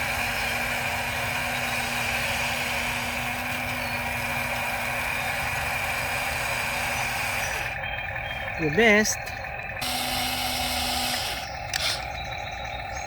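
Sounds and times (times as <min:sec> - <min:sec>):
toy excavator humming: 0:00.0 - 0:13.0.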